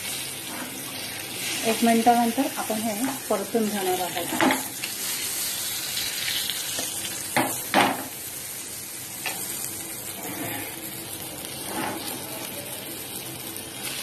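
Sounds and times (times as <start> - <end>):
fish sizzling in frying pan: 0.0 - 14.0.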